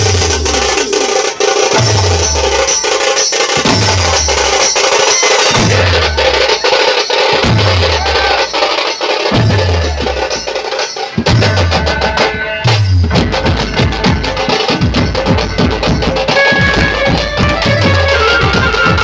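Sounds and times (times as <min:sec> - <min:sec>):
fast dense percussion: 0:00.0 - 0:19.0.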